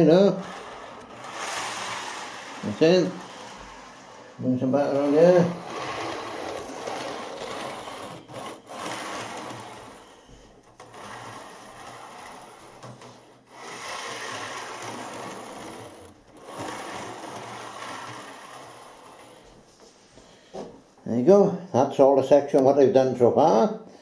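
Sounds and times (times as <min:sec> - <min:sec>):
model train wheels rumbling on rails: 0:00.0 - 0:19.6.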